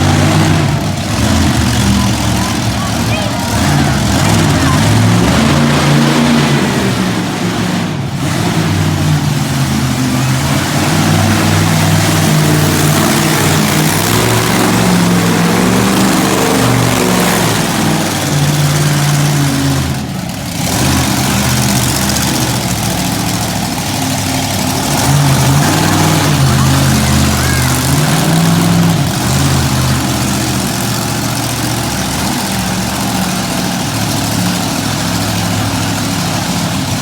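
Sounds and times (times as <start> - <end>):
truck engine revving loudly: 0.0 - 37.0.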